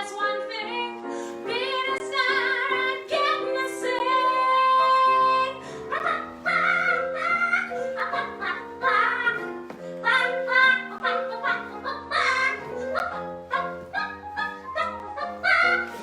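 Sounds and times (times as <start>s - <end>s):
instrumental backing track: 0.0s - 16.0s
woman singing: 0.0s - 16.0s.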